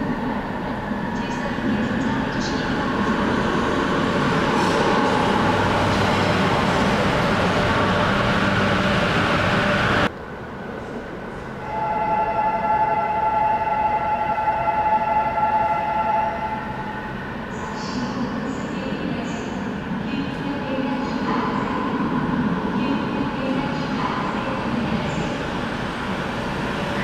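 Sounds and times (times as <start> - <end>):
high whine of approaching train: 0.0 - 27.0.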